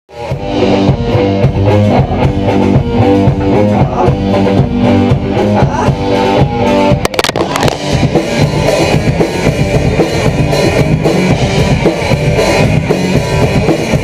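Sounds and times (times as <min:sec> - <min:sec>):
bass guitar: 0:00.1 - 0:14.0
drum kit: 0:00.1 - 0:14.0
electric guitar chords: 0:00.1 - 0:14.0.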